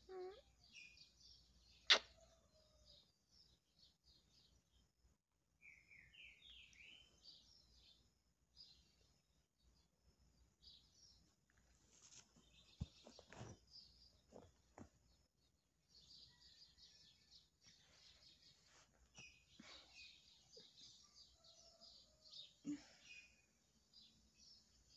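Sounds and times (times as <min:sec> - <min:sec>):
faint birds chirping: 0:00.0 - 0:24.9.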